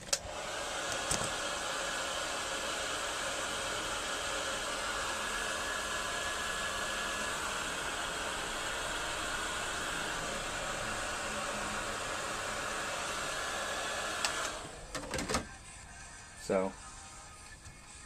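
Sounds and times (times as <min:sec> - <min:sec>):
heat gun blowing hiss: 0:00.0 - 0:14.9.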